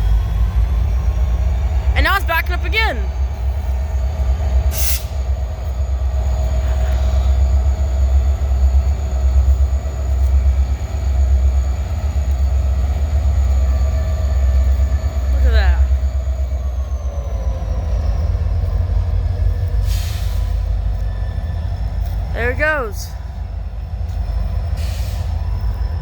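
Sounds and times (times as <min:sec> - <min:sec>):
diesel locomotive rumbling: 0:00.0 - 0:26.0.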